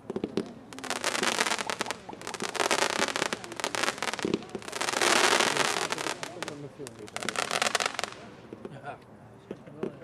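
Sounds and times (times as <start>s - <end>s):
firework crackling: 0.0s - 8.7s.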